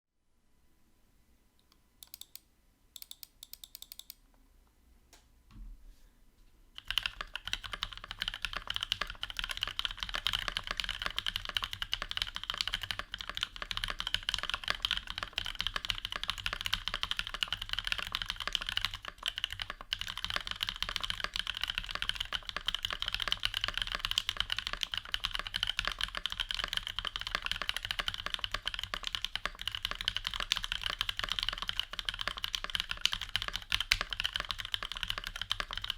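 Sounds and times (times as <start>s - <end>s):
keyboard clicks: 1.6s - 4.2s, 6.8s - 35.9s
fast mechanical keyboard typing: 2.0s - 2.4s, 3.0s - 4.2s, 6.8s - 35.9s.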